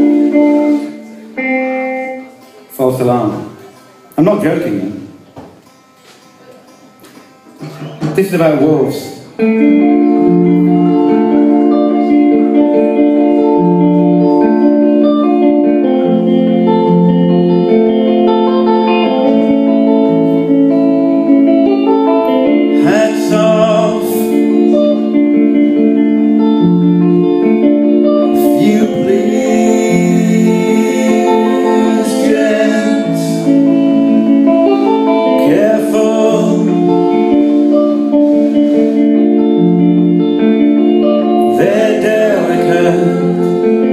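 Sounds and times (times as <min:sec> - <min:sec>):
live rock band playing: 0:00.0 - 0:02.6, 0:05.6 - 0:43.9
electric guitar chords: 0:00.0 - 0:43.9.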